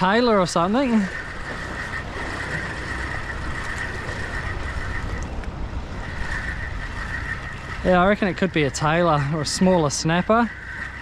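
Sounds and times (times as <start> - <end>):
fishing reel whirring: 0.0 - 11.0
surf: 0.0 - 11.0
wind buffeting microphone: 0.0 - 11.0.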